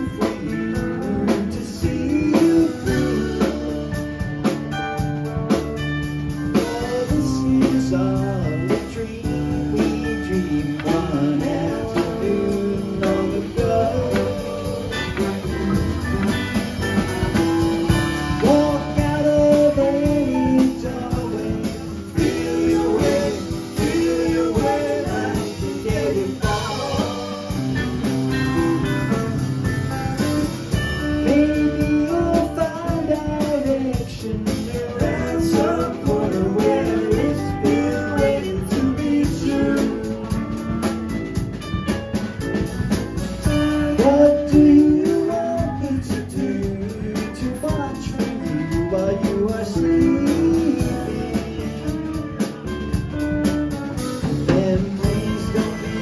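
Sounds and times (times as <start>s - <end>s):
person singing: 0.0s - 4.2s, 6.5s - 16.2s, 16.8s - 41.0s, 43.4s - 53.4s, 54.0s - 56.0s
bass guitar: 0.0s - 56.0s
drum kit: 0.0s - 56.0s
electric guitars: 0.0s - 56.0s
keyboards: 0.0s - 56.0s.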